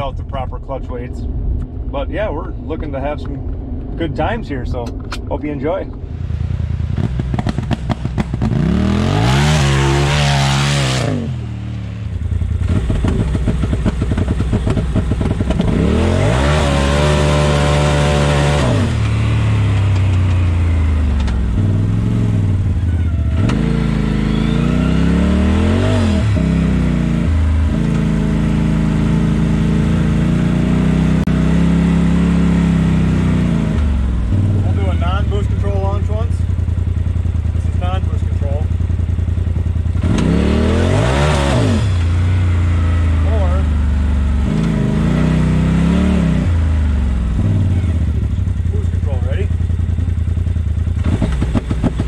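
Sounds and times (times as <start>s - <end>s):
turbocharged engine revving: 6.2s - 52.0s.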